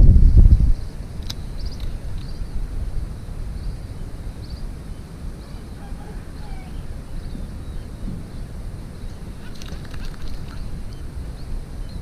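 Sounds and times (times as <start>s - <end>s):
wind on microphone: 0.0s - 12.0s
birds chirping: 0.8s - 12.0s.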